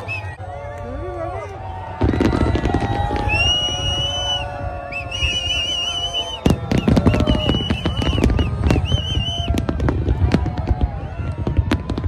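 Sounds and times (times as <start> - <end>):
fireworks bangs and crackles: 1.0 - 12.0
fireworks whistling: 2.0 - 12.0.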